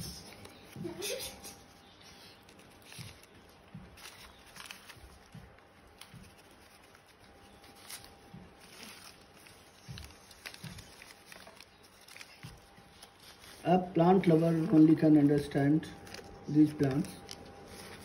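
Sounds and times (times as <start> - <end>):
newspaper rustling: 0.0 - 18.0.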